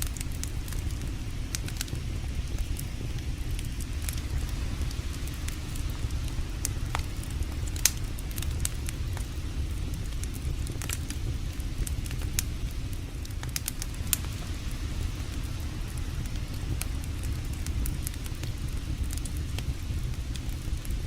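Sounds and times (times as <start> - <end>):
campfire crackles and pops: 0.0 - 21.0
low fire rumble: 0.0 - 21.0.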